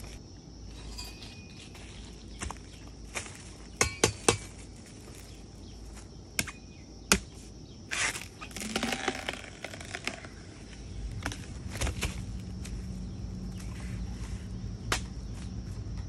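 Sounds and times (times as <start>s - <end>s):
rustling and crackling leaves: 0.0s - 6.1s, 7.9s - 16.0s.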